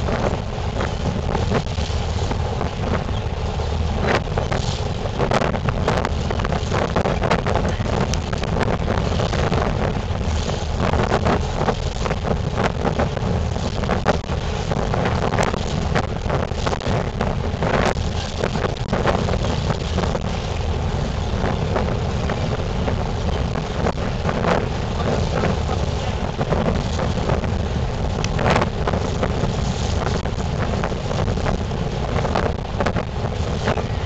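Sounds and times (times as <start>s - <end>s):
boat engine rumble: 0.0s - 34.0s
wind buffeting microphone: 0.0s - 34.0s.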